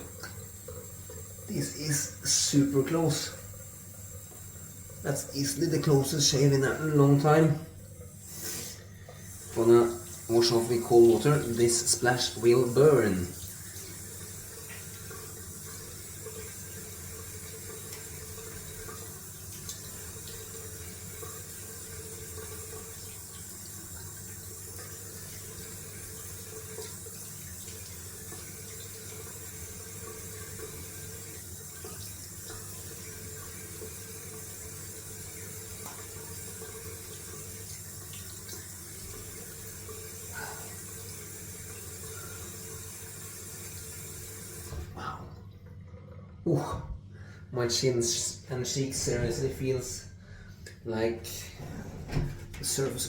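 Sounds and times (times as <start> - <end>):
tap water running into sink: 0.0 - 46.8, 48.1 - 50.0, 50.6 - 53.0.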